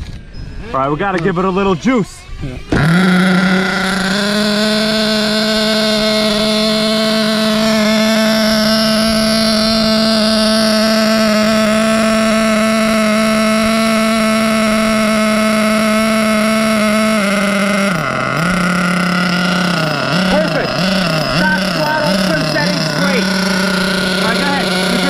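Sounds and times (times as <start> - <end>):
model engine high-pitched drone: 0.0 - 25.0.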